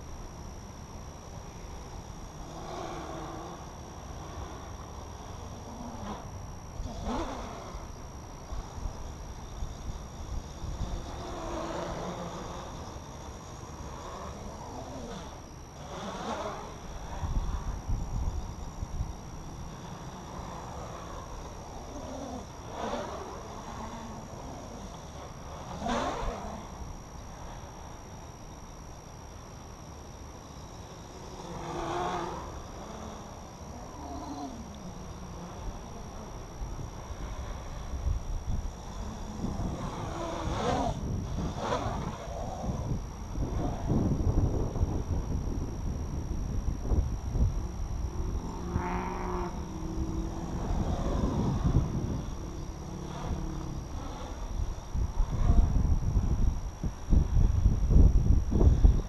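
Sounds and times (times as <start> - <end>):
wind rumble on microphone: 0.0 - 29.3, 30.4 - 59.0
quadcopter motors buzzing: 0.0 - 59.0.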